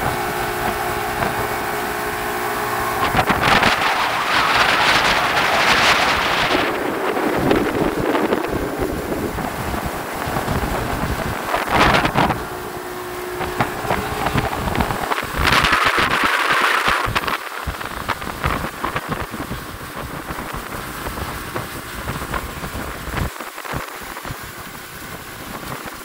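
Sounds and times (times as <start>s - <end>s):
rushing water: 0.0s - 26.0s
wind buffeting microphone: 0.0s - 26.0s.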